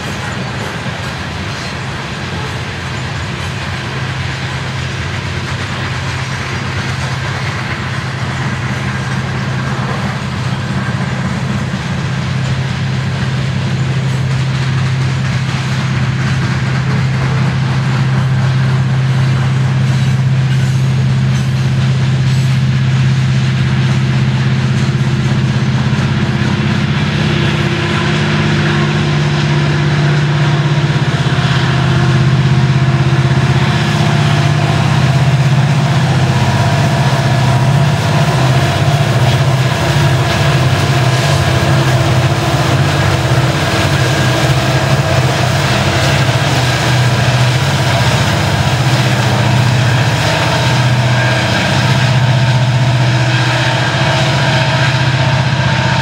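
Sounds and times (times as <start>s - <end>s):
diesel locomotive engines droning: 0.0s - 56.0s.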